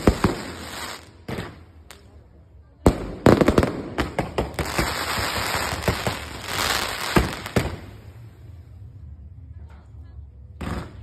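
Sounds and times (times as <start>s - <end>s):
fireworks bangs and crackling: 0.0s - 8.8s, 10.5s - 11.0s.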